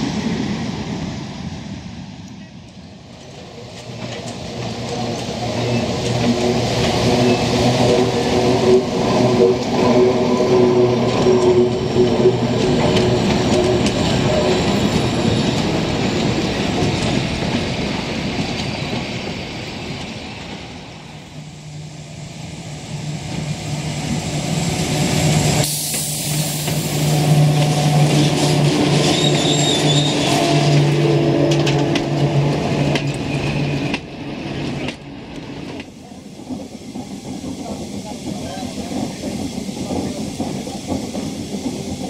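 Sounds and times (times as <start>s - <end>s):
electric locomotive hum: 0.0s - 42.0s
train wheels clattering on rails: 2.2s - 21.4s, 23.2s - 42.0s.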